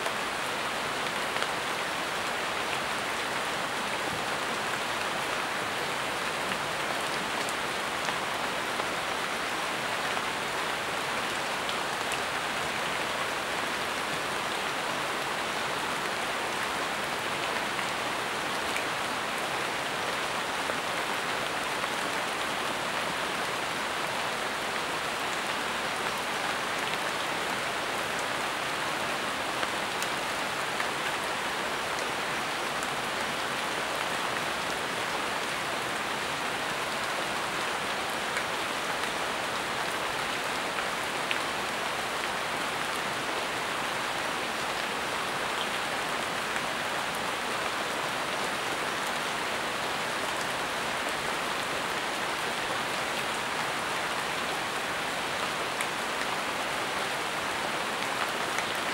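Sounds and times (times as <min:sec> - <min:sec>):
rain falling on leaves: 0:00.0 - 0:58.9.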